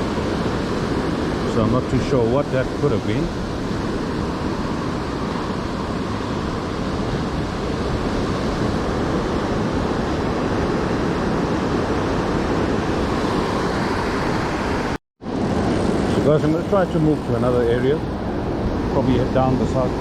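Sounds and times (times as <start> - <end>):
surf on the shore: 0.0 - 20.0
wind on microphone: 0.0 - 20.0.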